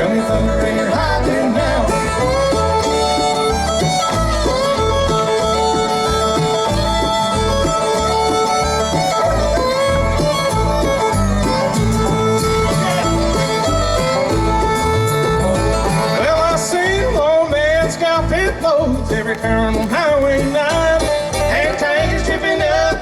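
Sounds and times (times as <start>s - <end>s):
bluegrass band playing: 0.0s - 23.0s
fiddle lead: 0.0s - 23.0s.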